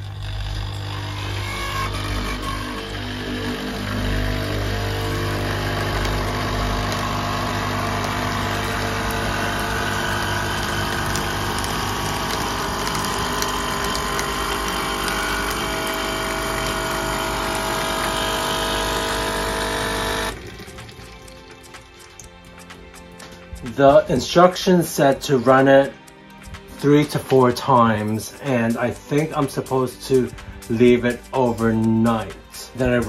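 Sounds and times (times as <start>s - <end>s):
coffee machine pump humming: 0.0s - 33.0s.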